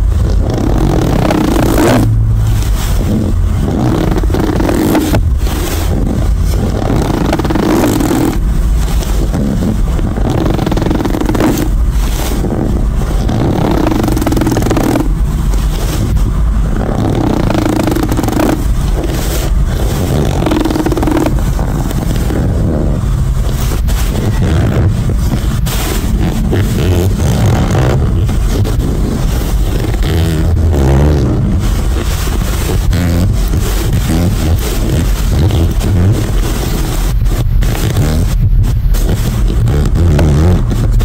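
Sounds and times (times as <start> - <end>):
hand fart noises: 0.0 - 41.0
low rumble: 0.0 - 41.0.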